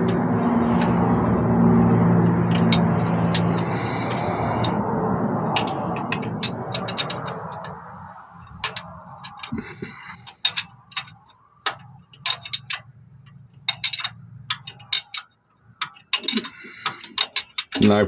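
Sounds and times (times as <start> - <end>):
wrench clicking on metal: 0.0 - 18.0.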